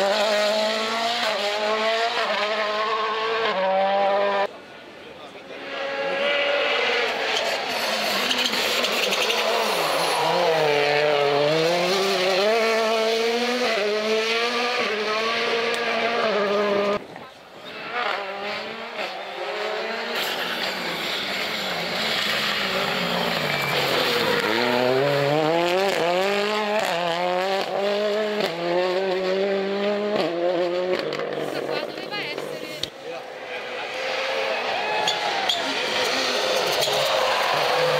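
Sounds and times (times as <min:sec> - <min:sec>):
rally car engines revving: 0:00.0 - 0:04.7, 0:05.3 - 0:37.9.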